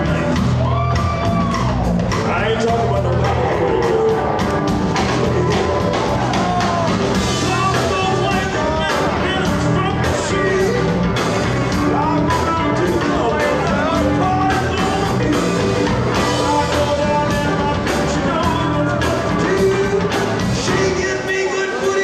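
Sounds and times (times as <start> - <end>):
bass guitar: 0.0 - 22.0
drums: 0.0 - 22.0
electric guitars: 0.0 - 22.0.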